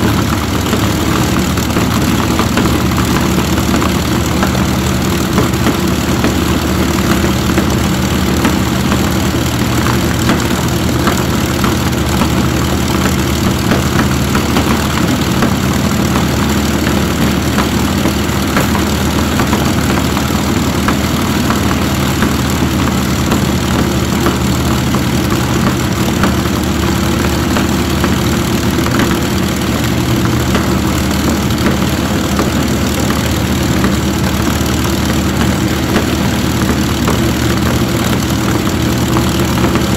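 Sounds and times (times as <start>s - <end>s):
aero engine idling: 0.0s - 39.9s.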